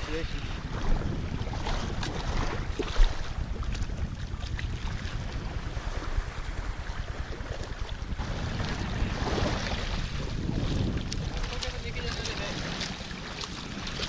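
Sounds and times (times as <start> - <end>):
sea water lapping: 0.0 - 14.0
wind buffeting microphone: 0.0 - 14.0.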